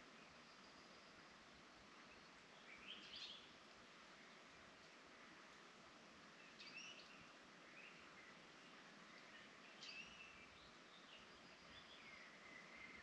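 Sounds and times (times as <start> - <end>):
songbird chirps: 0.0 - 13.0
steady woodland hiss: 0.0 - 13.0.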